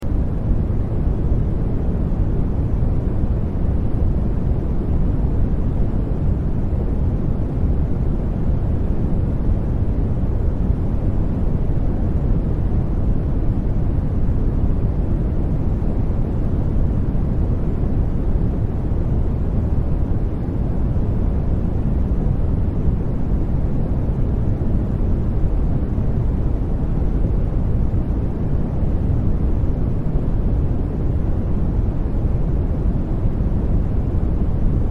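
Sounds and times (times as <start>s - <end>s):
deep brown noise: 0.0s - 34.9s.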